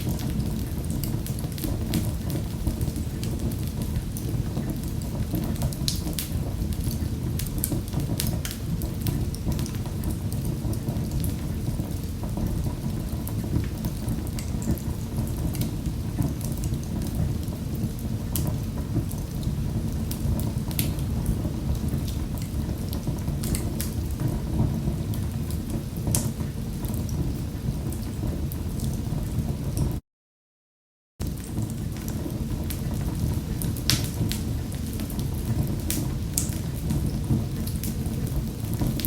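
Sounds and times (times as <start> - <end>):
wood fire crackling in fireplace: 0.0 - 30.0, 31.2 - 39.0.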